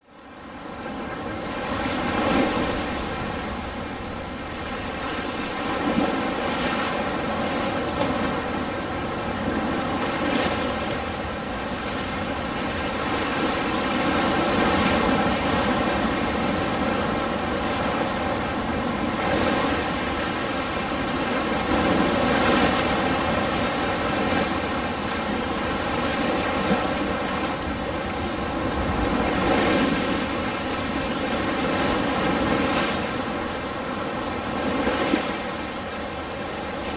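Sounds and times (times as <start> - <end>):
ocean waves breaking: 0.2 - 36.9.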